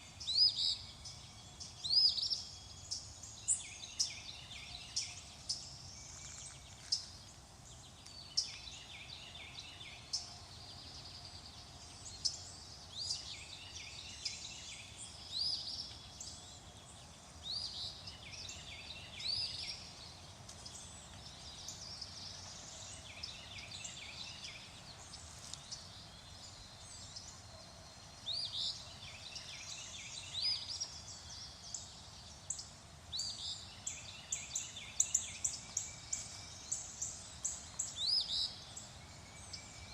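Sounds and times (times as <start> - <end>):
birds singing and calling: 0.0 - 39.9
faint steady background noise: 0.0 - 39.9.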